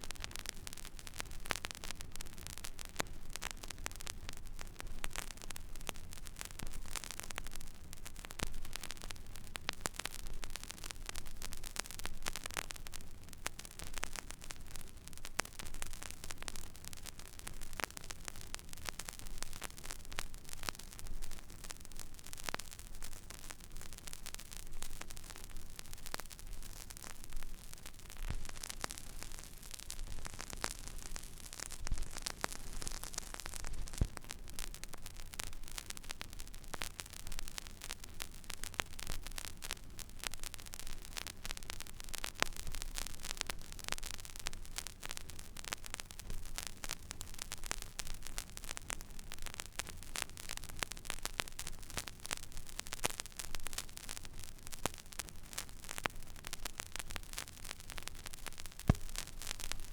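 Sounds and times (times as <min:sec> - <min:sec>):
vinyl pops: 0:00.0 - 0:59.9
vinyl surface hiss and crackles: 0:00.0 - 0:59.9.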